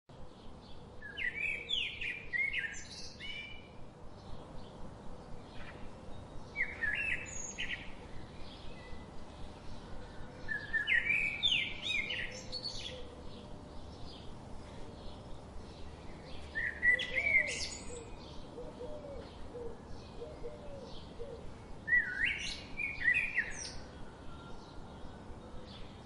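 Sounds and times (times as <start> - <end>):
songbirds chirping: 0.1 - 26.0.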